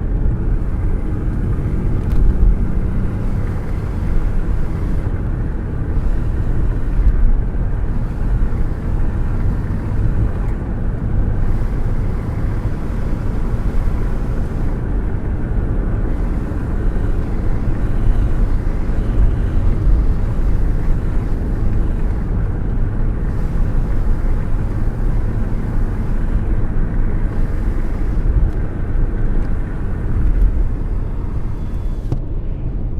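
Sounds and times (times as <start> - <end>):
road rumble: 0.0 - 32.9
wind rushing past car window: 0.0 - 32.9.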